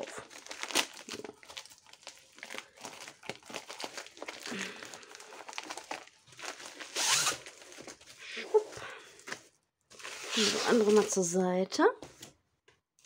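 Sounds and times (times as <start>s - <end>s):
plastic mailer crinkling: 0.0s - 11.3s.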